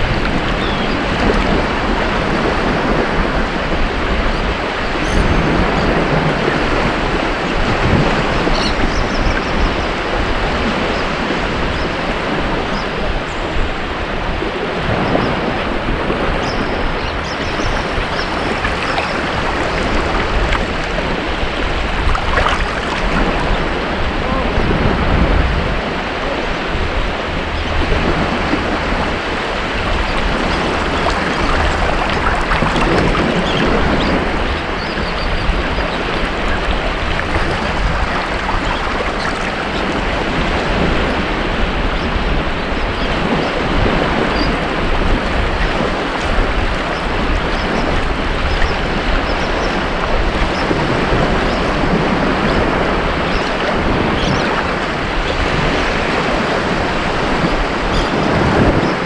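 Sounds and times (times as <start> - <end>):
ocean waves on a beach: 0.0 - 59.0.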